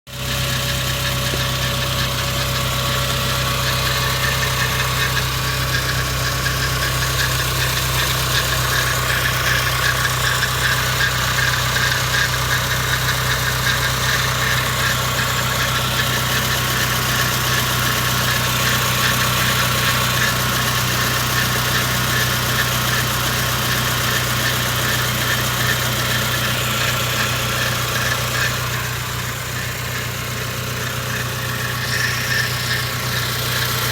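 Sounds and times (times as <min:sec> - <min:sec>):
car engine idling: 0:00.1 - 0:33.9
fast fluttering rattle: 0:00.5 - 0:33.9.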